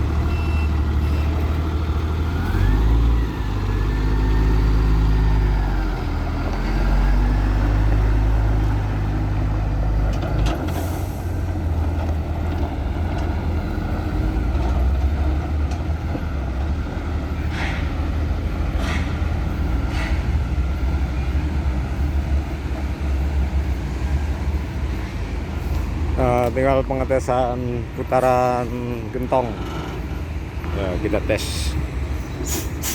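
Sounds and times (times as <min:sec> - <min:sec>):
diesel truck engine running: 0:00.0 - 0:32.9.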